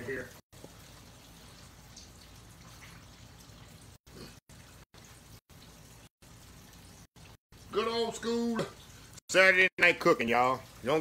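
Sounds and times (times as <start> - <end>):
fish frying in hot oil: 0.1 - 11.0.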